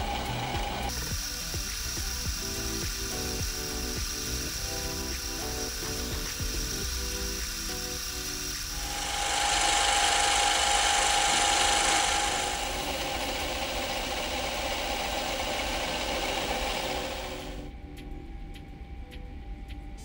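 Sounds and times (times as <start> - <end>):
lathe cutting hiss with whine: 0.0 - 17.7.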